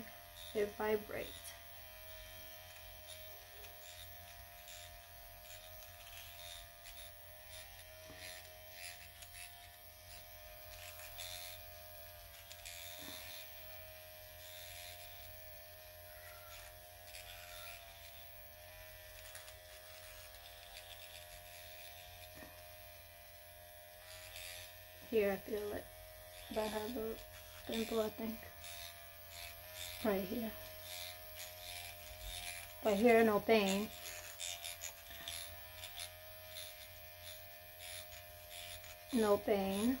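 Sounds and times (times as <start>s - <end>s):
microneedling pen buzzing: 0.0s - 40.0s.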